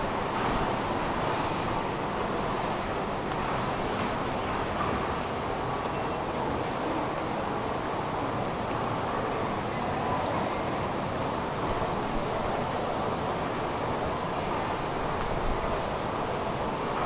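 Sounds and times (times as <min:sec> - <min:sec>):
metro station rumble: 0:00.0 - 0:17.0.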